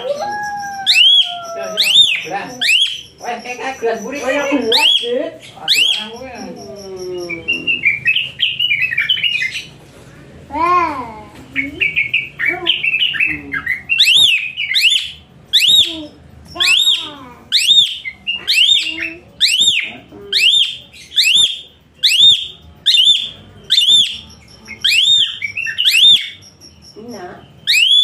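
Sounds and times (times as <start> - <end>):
bird whistling calls: 0.0 - 9.7, 11.6 - 28.0.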